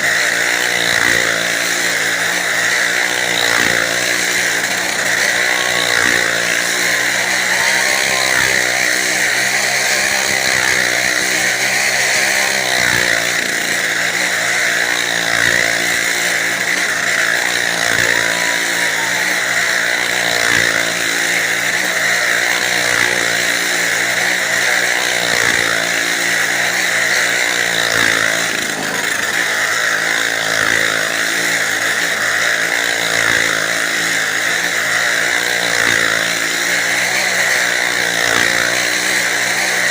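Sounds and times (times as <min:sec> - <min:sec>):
motorcycle engines at high revs: 0:00.0 - 0:39.9.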